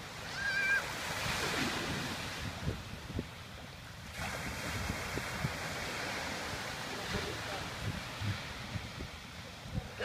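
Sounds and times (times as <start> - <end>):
sea waves washing onto beach: 0.0 - 10.0
wind buffeting microphone: 0.0 - 10.0.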